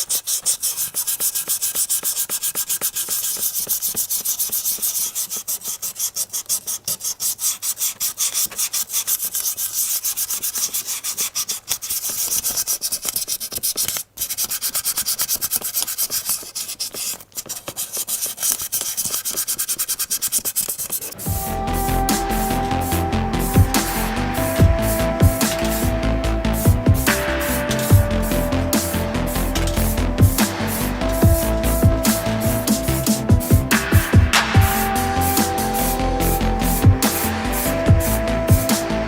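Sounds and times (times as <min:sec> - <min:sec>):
hand sanding strokes: 0:00.0 - 0:39.0.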